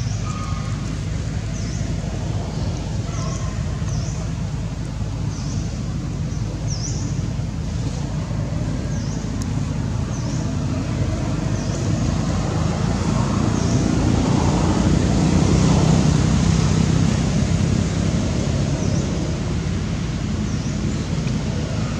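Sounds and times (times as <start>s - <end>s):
low outdoor rumble: 0.0s - 21.9s.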